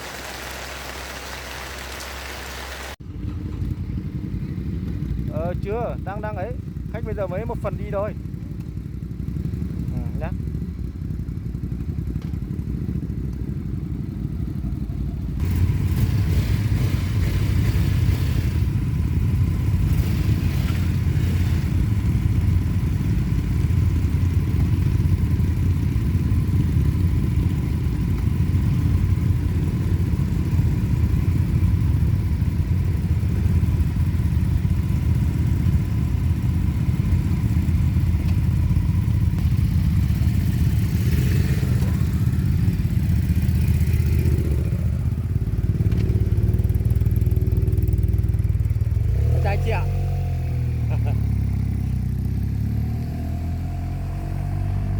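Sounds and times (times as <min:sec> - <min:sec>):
vehicle engine rumbling: 0:00.0 - 0:54.9.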